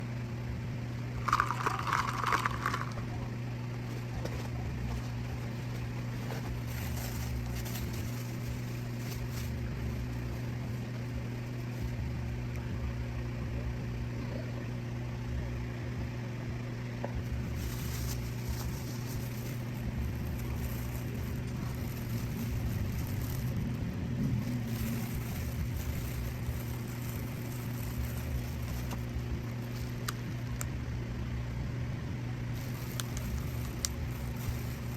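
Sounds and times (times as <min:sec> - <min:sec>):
motor humming: 0:00.0 - 0:34.9.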